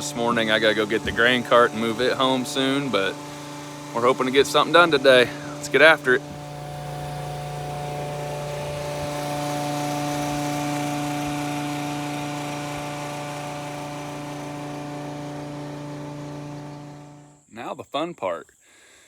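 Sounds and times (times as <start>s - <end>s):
machine humming over a hiss: 0.0s - 17.4s.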